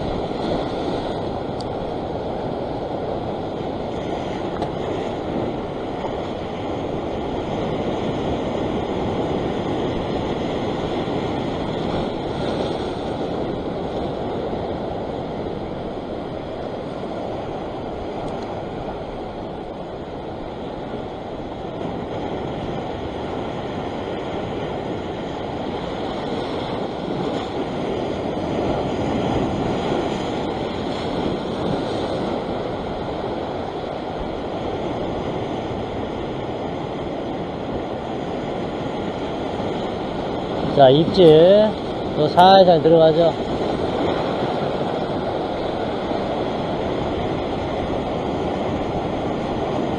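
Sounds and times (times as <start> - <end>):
waves breaking over rocks: 0.0 - 49.9.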